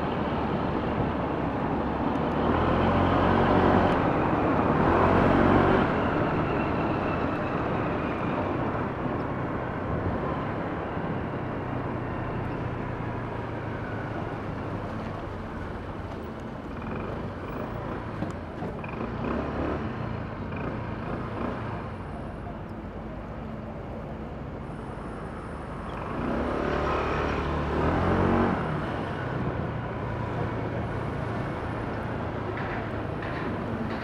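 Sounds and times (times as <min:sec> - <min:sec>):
tyre and road noise: 0:00.0 - 0:34.0.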